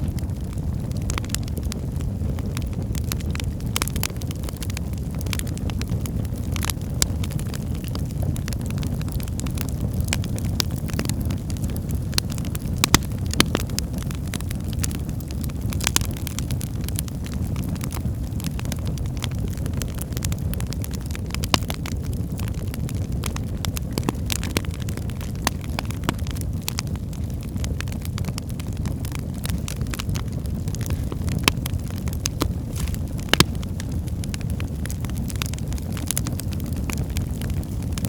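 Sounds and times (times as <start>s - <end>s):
firewood crackling and popping: 0.0s - 38.0s
low rumble of flames: 0.0s - 38.0s.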